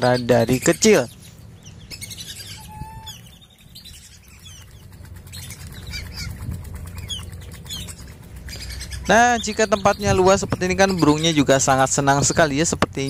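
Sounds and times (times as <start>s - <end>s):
ducks whistling calls: 0.0s - 12.8s
wings flapping: 2.0s - 13.0s.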